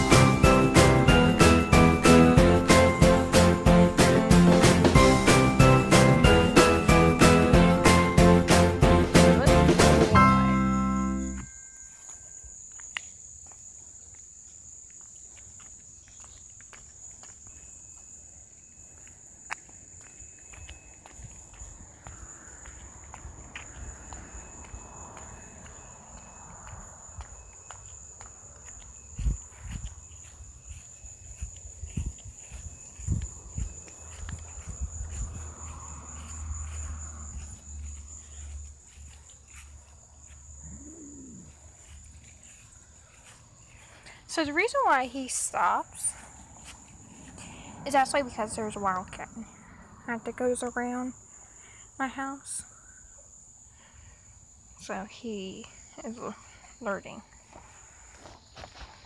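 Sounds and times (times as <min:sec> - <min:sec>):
insect chorus chirring: 0:11.1 - 0:59.0.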